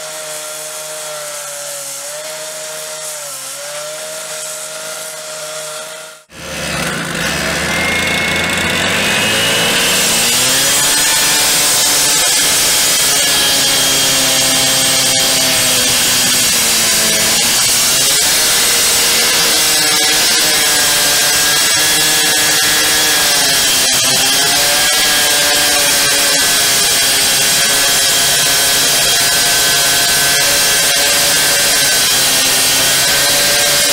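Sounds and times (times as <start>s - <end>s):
gas cut-off saw cutting concrete: 0.0s - 33.9s.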